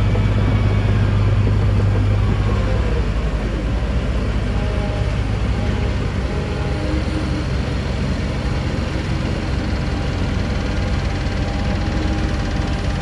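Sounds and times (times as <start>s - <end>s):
diesel engine rumble: 0.0s - 13.0s
faint whining tones: 0.0s - 13.0s.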